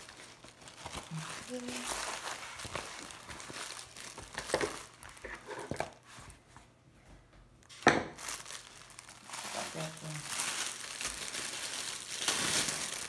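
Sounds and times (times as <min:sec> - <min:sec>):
plastic film crinkling: 0:00.0 - 0:06.4, 0:07.6 - 0:13.0.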